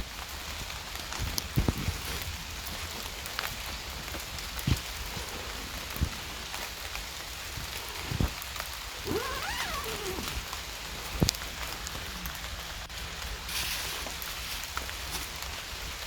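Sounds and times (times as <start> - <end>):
rain falling on a tent: 0.0 - 16.0.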